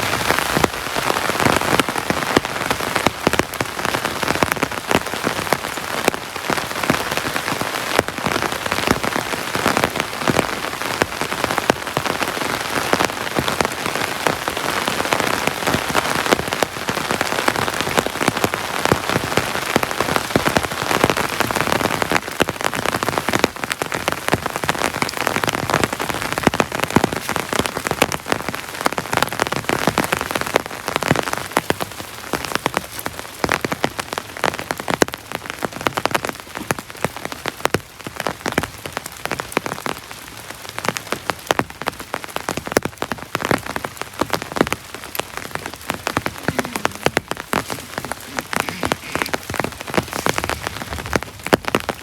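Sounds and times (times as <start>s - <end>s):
heavy rain drops pattering: 0.0s - 52.0s.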